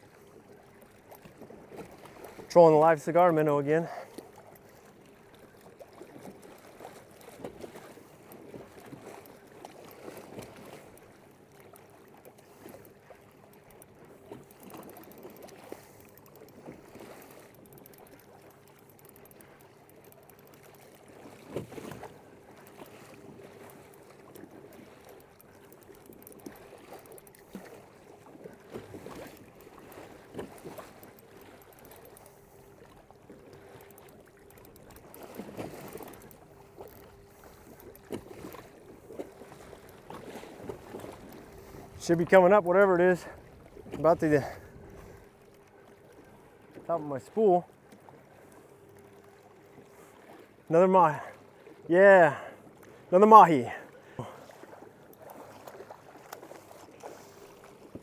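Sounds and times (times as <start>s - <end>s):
water sloshing along kayak hull: 0.0s - 58.0s.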